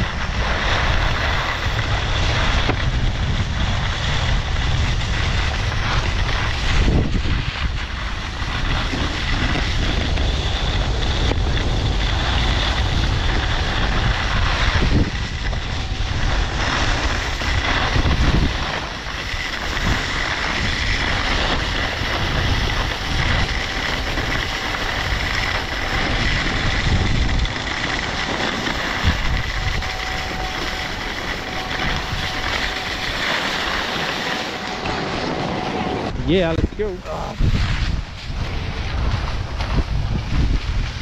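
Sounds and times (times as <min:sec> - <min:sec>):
snowblades scraping over snow: 0:00.0 - 0:41.0
wind buffeting microphone: 0:00.0 - 0:41.0
faint steady whine: 0:00.1 - 0:40.6.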